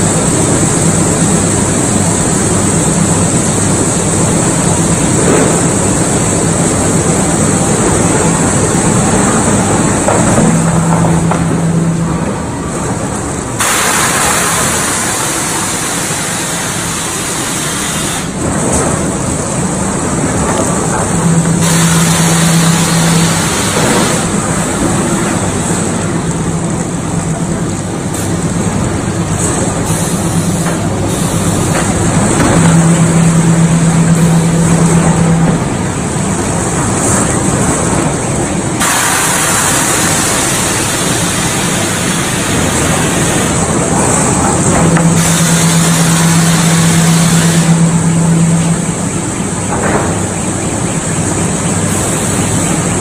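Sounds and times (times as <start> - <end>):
low machinery hum: 0.0 - 53.0
rolling mill machinery din: 0.0 - 53.0.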